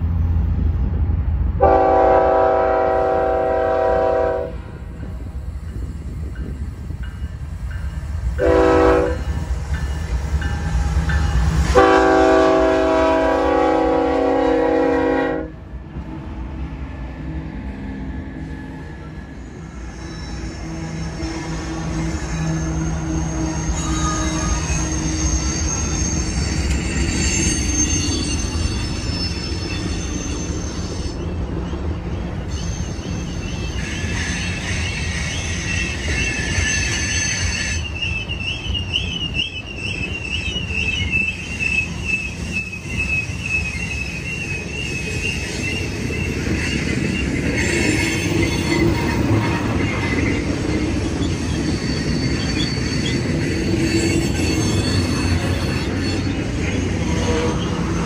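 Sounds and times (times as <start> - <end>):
train wheels squealing: 4.2 - 14.4, 16.9 - 58.0.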